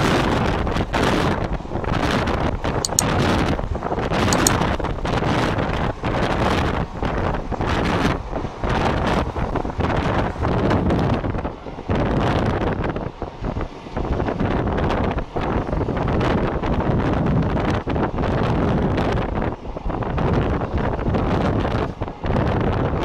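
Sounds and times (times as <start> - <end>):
train rumbling on track: 0.0 - 23.0
wind buffeting microphone: 0.0 - 23.0.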